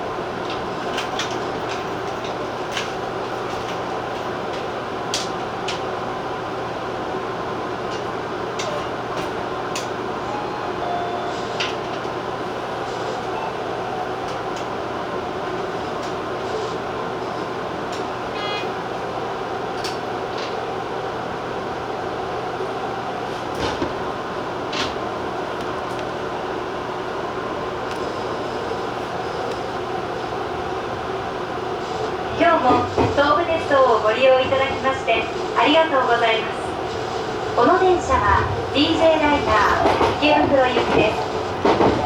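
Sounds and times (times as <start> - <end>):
train humming: 0.0 - 42.0.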